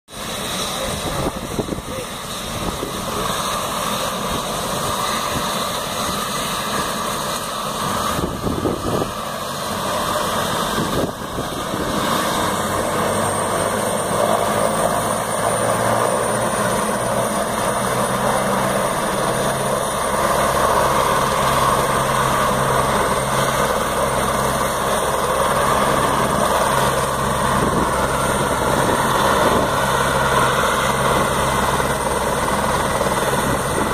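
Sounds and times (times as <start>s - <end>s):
helicopter engine and rotor: 0.1s - 33.9s
high turbine whine: 0.1s - 33.9s.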